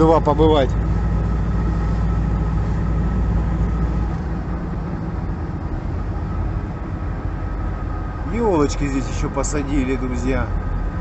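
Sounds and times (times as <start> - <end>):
road noise: 0.0 - 11.0
van engine drone: 0.0 - 11.0.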